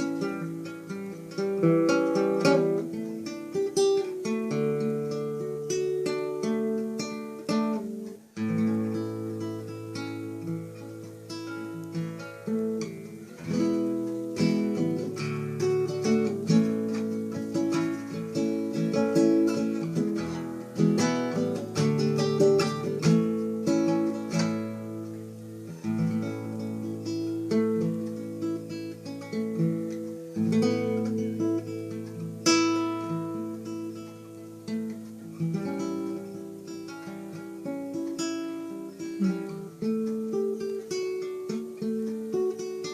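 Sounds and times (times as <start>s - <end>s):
fingerstyle acoustic guitar: 0.0s - 42.9s.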